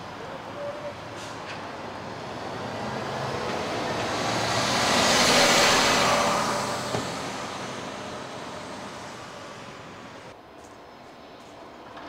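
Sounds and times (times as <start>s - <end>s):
coach diesel engine passing: 0.0s - 10.3s
tyres on road: 0.0s - 12.0s.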